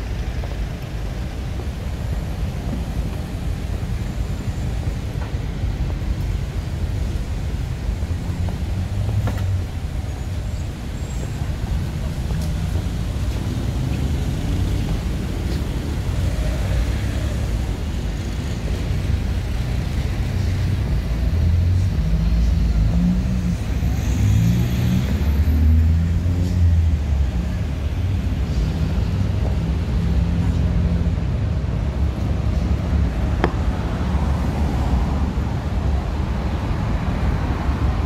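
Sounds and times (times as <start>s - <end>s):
traffic engine rumble: 0.0s - 38.0s.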